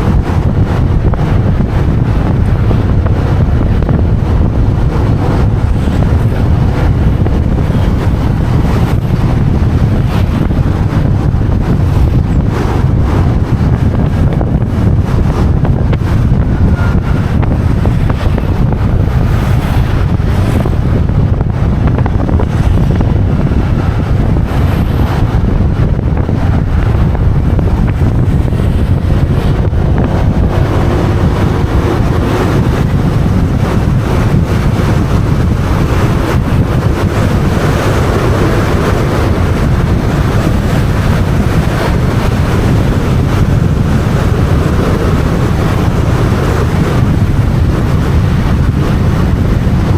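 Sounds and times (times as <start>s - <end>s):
motorbike engine: 0.0s - 49.9s
road noise: 0.0s - 49.9s
wind buffeting microphone: 0.0s - 49.9s.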